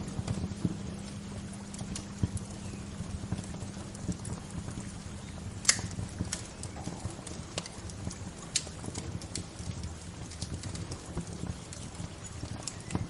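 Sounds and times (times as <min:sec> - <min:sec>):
low rushing background: 0:00.0 - 0:12.8
wood fire crackling: 0:00.0 - 0:13.0.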